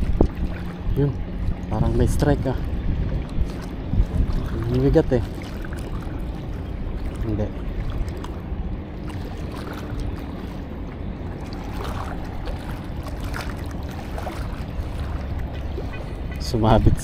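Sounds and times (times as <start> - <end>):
moving water: 0.0 - 17.0
wind on microphone: 0.0 - 17.0.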